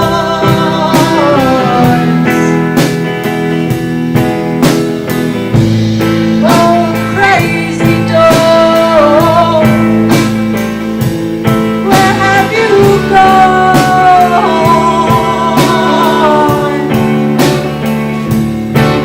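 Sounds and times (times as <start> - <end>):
bass notes: 0.0 - 19.0
lead guitar bending notes: 0.0 - 19.0
steady drum beat: 0.0 - 19.0.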